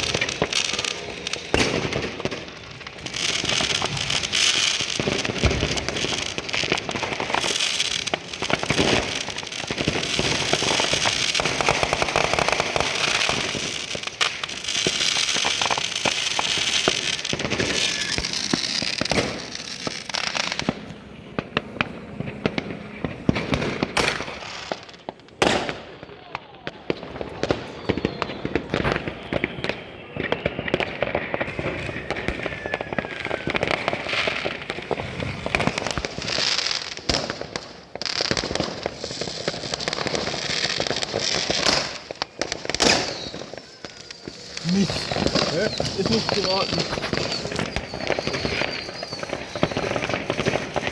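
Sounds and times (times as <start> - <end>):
fireworks crackling and banging: 0.0 - 50.9.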